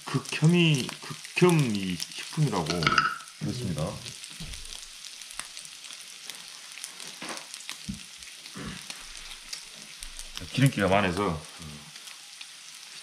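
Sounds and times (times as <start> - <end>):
meat sizzling in a grill pan: 0.0 - 13.0.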